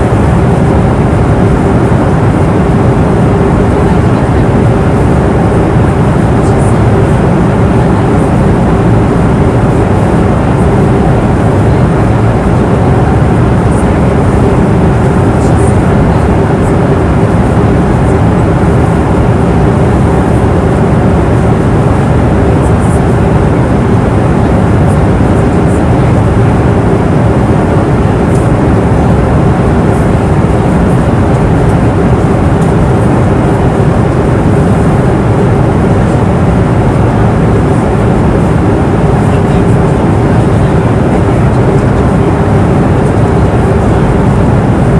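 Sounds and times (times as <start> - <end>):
airplane cabin engine noise: 0.0 - 44.9.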